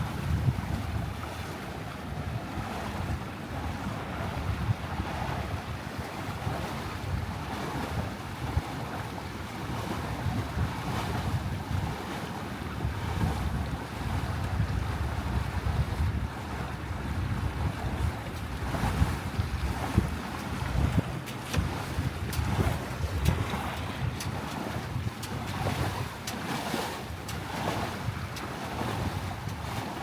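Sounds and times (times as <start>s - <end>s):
water rushing and lapping on hull: 0.0s - 30.0s
wind buffeting microphone: 0.0s - 30.0s.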